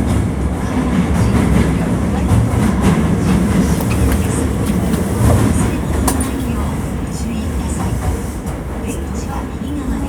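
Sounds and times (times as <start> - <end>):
train wheels and motors rumbling: 0.0 - 10.0.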